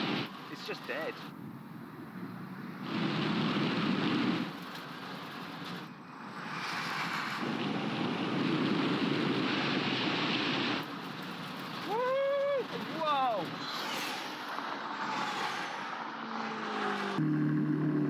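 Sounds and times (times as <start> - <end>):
rushing wind: 0.0 - 18.0.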